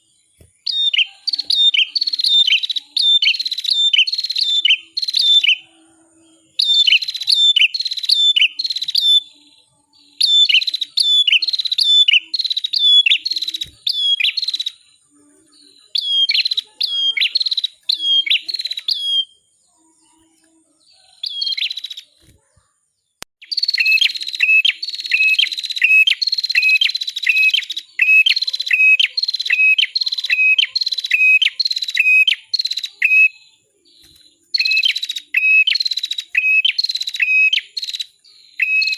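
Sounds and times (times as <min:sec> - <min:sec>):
bird singing sharp repeated notes: 0:00.0 - 0:38.9.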